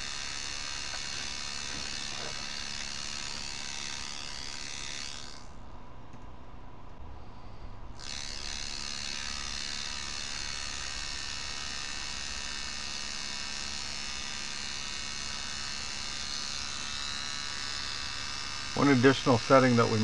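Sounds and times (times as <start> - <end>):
electrical buzz: 0.0 - 5.7, 7.2 - 20.0.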